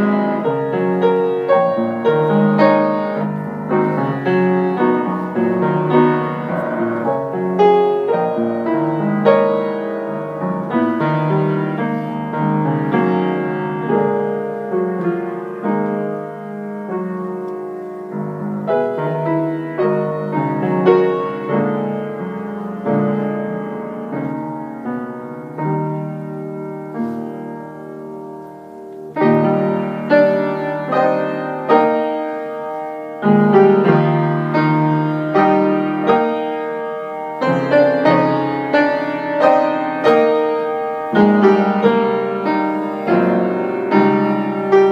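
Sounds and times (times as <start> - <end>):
piano notes and chords: 0.0 - 44.9.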